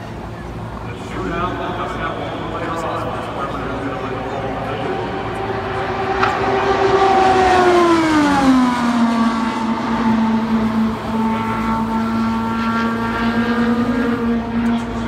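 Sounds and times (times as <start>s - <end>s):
race car passing at full throttle: 0.0s - 15.0s.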